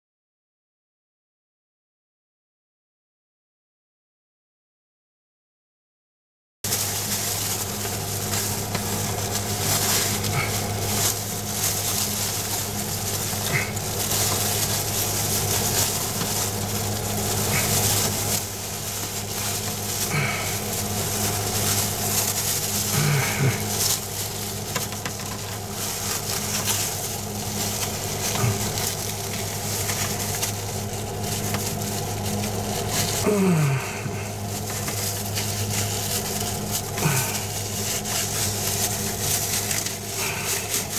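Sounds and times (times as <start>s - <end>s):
plastic gloves crinkling: 6.6s - 40.9s
steady low hum: 6.6s - 40.9s.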